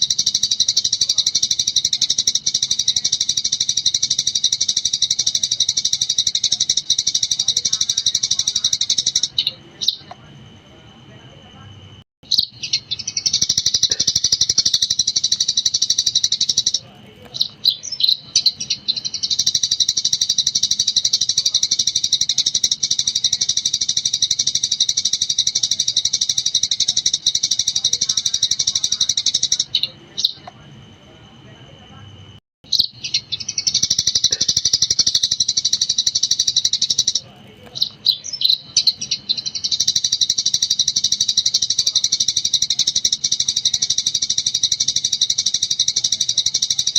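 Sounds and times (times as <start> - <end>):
sparrow chirping: 0.0 - 10.2, 12.2 - 30.6, 32.7 - 46.9.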